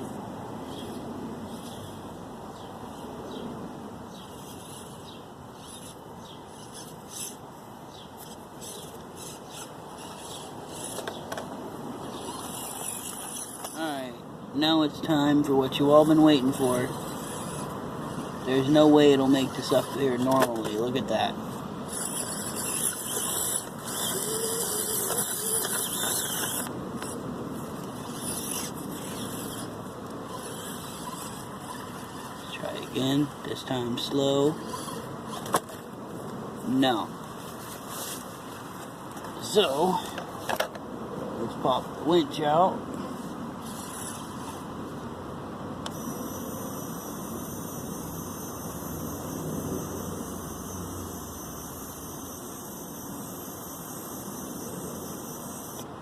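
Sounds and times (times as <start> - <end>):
toy car tyres scraping ground: 4.1 - 14.1, 15.0 - 40.8, 41.4 - 45.0, 45.8 - 55.9.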